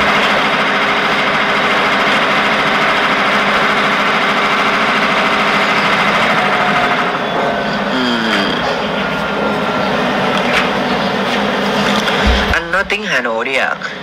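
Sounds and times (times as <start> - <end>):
air conditioner unit humming: 0.0 - 14.0.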